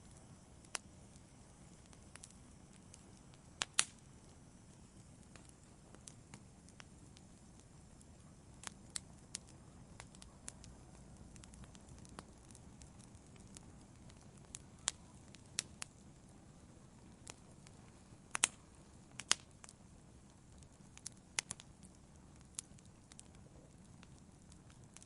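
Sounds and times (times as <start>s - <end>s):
low rumble of flames: 0.0s - 25.0s
sharp pops and snaps of fire: 0.0s - 25.0s
wood fire crackling: 0.0s - 25.0s.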